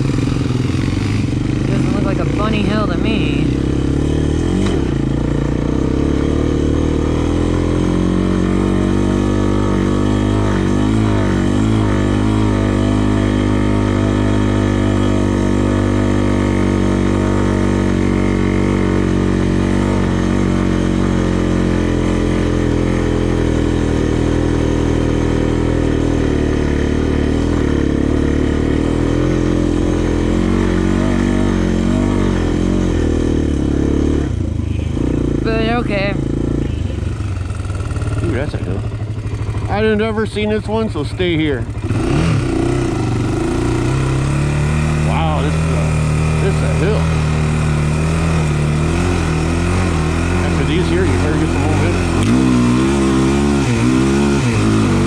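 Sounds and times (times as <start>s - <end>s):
quad engine running at low speed: 0.0s - 55.0s.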